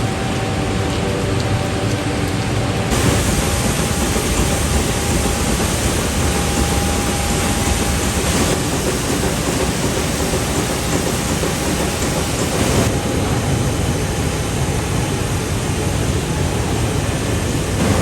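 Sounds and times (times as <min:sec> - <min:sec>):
industrial machinery rushing noise: 0:02.9 - 0:17.0, 0:17.7 - 0:18.0.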